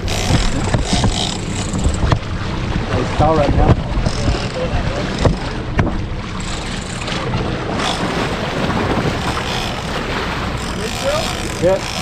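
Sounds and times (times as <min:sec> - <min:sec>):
outboard engine running: 0:00.0 - 0:12.0
wind buffeting microphone: 0:00.0 - 0:12.0.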